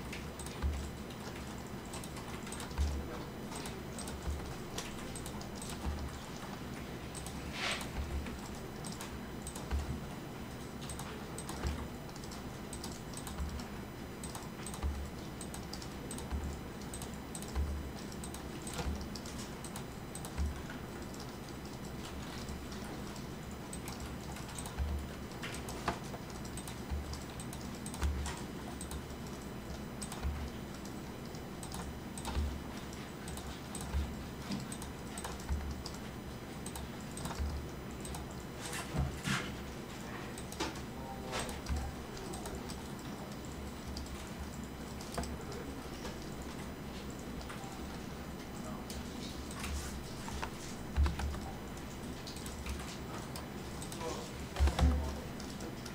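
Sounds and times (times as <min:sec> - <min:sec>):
keyboard and mouse clicks: 0:00.0 - 0:39.6, 0:40.3 - 0:55.9.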